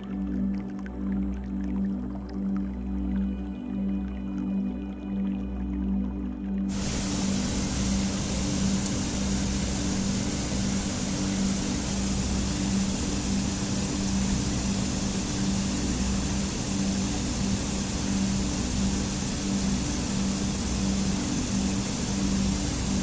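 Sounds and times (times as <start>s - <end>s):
low steady drone: 0.0s - 23.0s
rushing water: 0.0s - 23.0s.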